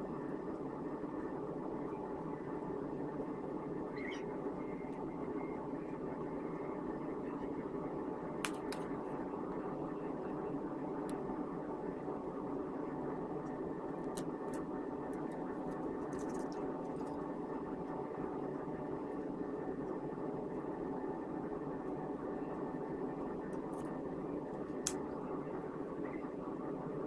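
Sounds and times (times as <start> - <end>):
background hum and hiss: 0.0 - 27.0.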